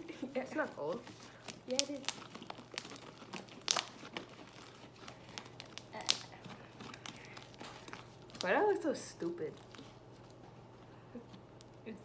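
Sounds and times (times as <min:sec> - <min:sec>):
slime crackling and popping: 0:00.4 - 0:10.4.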